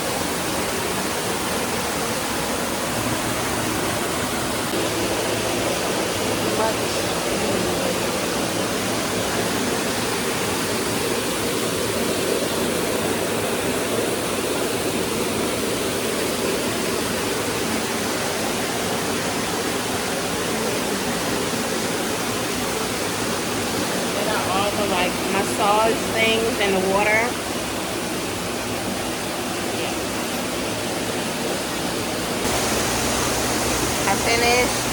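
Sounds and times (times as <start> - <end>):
jacuzzi water jets churning: 0.0 - 34.9.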